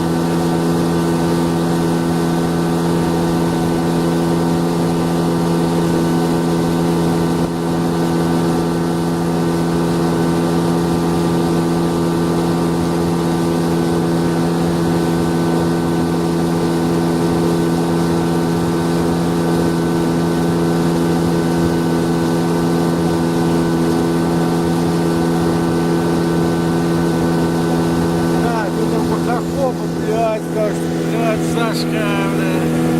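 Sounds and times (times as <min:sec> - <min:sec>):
outboard motor running: 0:00.0 - 0:32.9.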